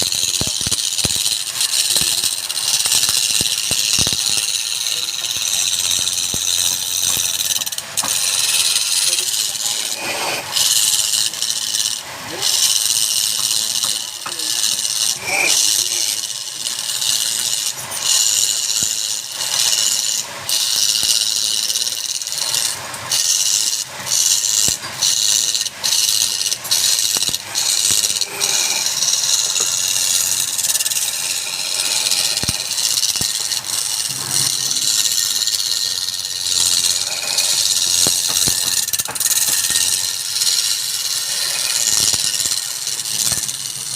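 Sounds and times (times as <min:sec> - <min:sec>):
lathe tool cutting wood hiss: 0:00.0 - 0:43.9.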